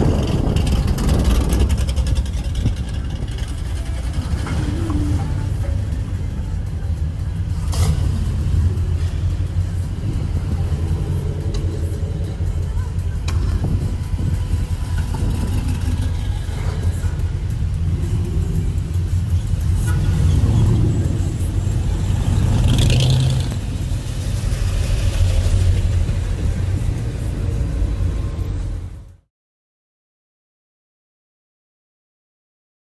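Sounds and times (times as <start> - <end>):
car engine rumbling: 0.0 - 29.2.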